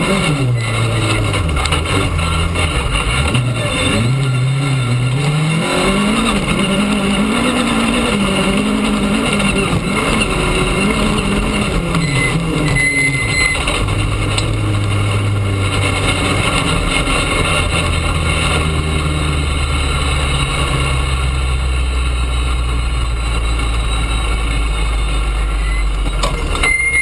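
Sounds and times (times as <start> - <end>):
car engine at low revs: 0.0 - 27.0
tyres on gravel: 0.0 - 27.0.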